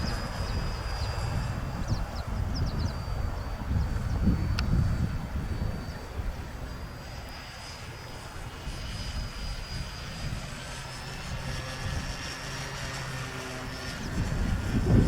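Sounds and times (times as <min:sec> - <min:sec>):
model plane motor whine: 0:00.0 - 0:15.0
wind rumble on microphone: 0:00.0 - 0:15.0.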